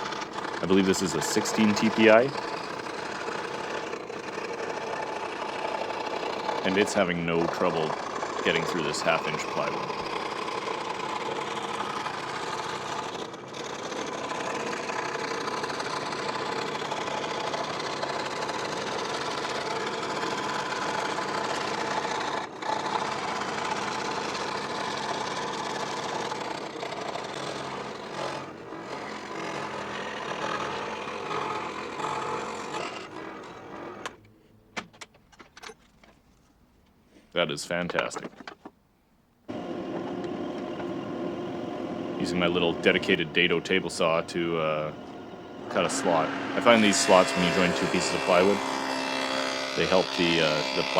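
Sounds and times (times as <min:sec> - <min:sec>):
scroll saw cutting wood: 0:00.0 - 0:34.3, 0:39.5 - 0:50.9.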